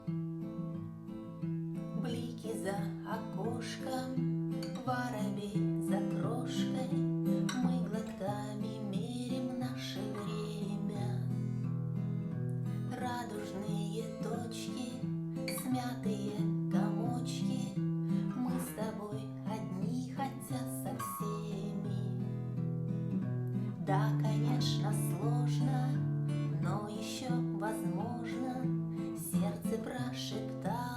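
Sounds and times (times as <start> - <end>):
acoustic guitar strumming chords: 0.0 - 30.9.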